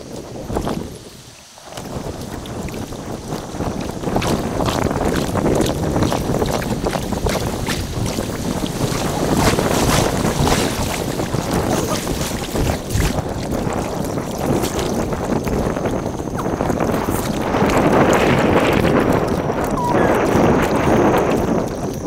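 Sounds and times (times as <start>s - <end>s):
paddle splashes: 0.0s - 22.0s
wind rumbling on microphone: 0.0s - 22.0s.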